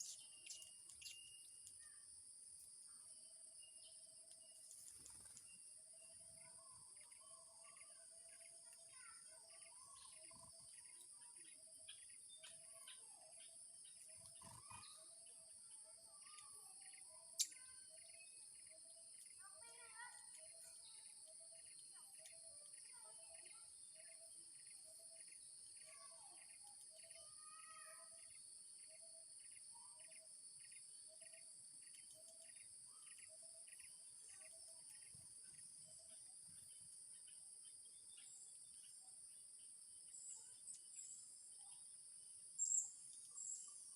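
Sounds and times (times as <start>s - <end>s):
thin bird chirps: 0.0s - 43.9s.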